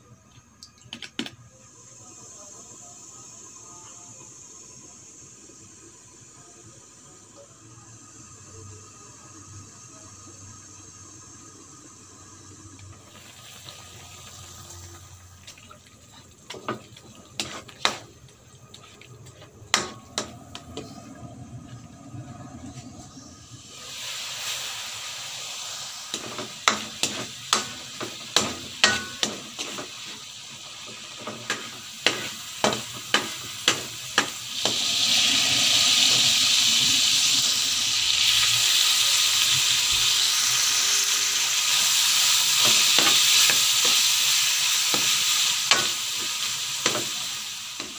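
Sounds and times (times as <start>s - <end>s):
meat sizzling in a wok: 1.2s - 47.9s.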